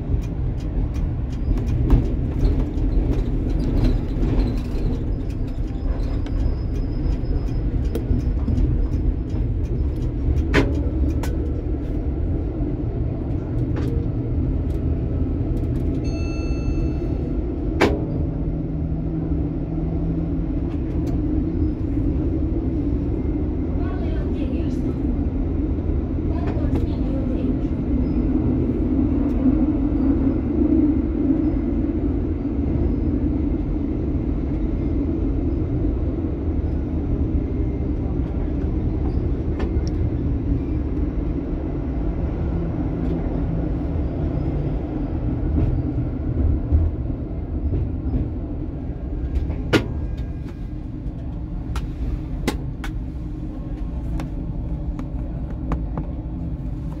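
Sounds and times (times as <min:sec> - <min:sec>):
tram rumbling on rails: 0:00.0 - 0:57.0.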